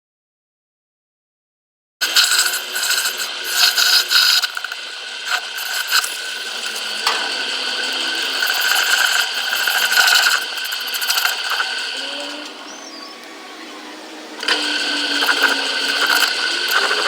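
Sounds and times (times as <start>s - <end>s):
metalworking tool running: 2.0s - 17.0s
sharp clicks: 2.0s - 17.0s.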